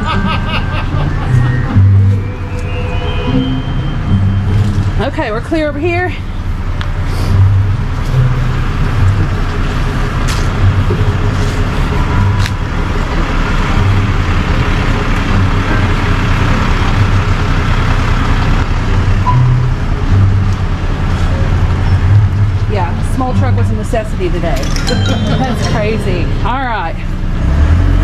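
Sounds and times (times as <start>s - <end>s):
truck engine low rumble: 0.0s - 28.0s.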